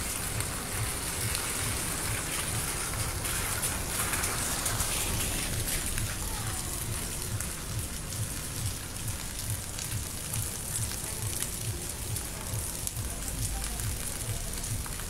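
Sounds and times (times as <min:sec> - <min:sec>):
low bass beat of music: 0:00.0 - 0:06.2, 0:07.1 - 0:15.0
rain falling on rooftops: 0:00.0 - 0:15.0.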